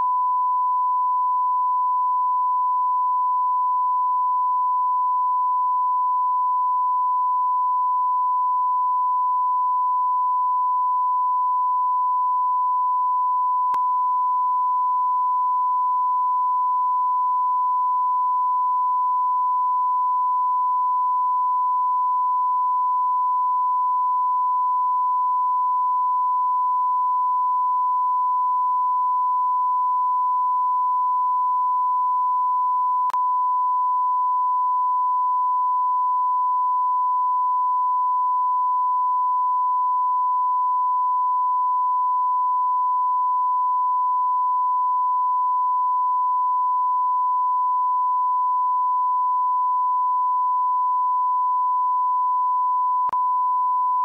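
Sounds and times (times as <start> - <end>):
sine-wave test tone: 0.0 - 54.0.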